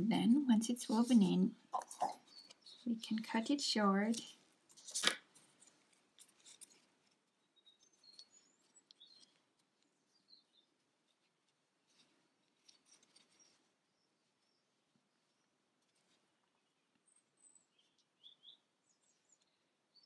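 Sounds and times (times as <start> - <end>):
fingers rustling a toy: 0.7 - 19.8.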